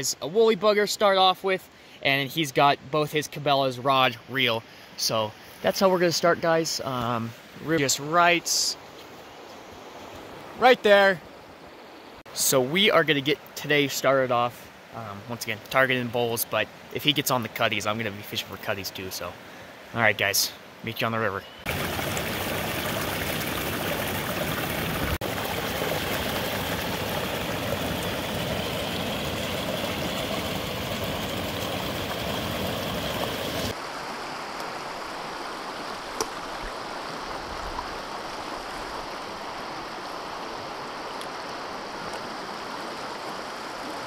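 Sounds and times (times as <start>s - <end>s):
creek water rushing over rocks: 0.0s - 44.0s.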